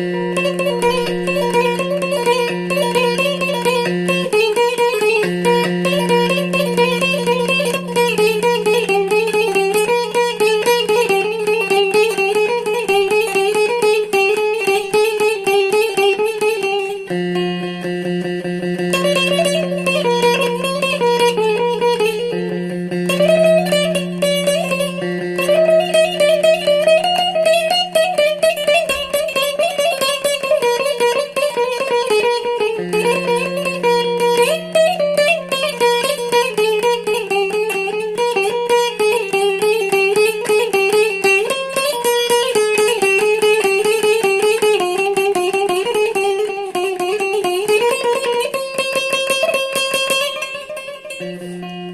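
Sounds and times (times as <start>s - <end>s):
plucked string melody: 0.0s - 51.9s.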